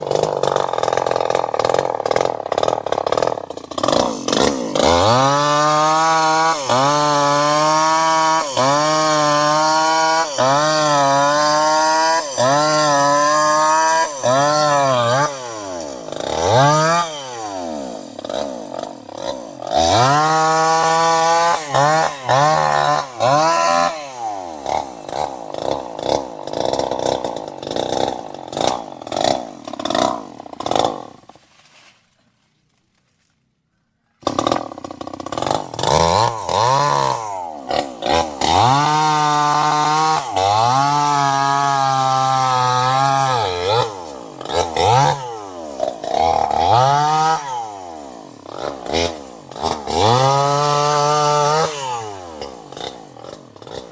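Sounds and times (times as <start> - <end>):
chainsaw engine revving: 0.0 - 31.4, 34.2 - 53.9.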